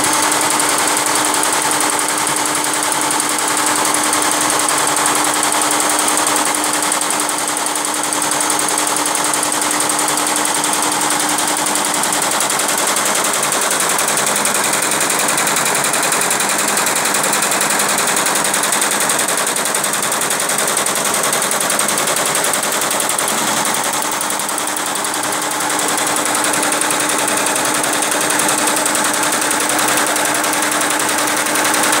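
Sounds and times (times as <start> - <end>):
embroidery machine needles clattering: 0.0 - 32.0.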